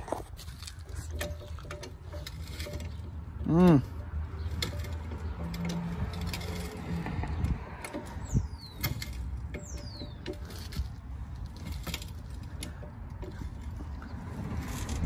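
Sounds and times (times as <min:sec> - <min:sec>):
jack pump clicks and knocks: 0:00.6 - 0:15.0.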